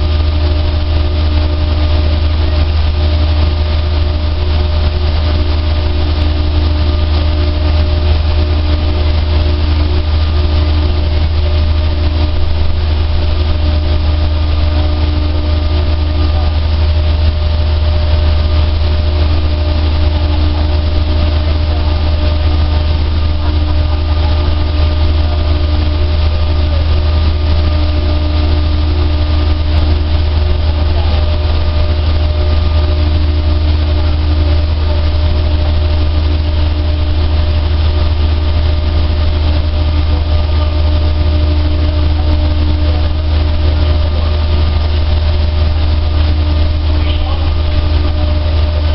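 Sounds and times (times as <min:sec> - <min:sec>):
dryer running: 0:00.0 - 0:48.9.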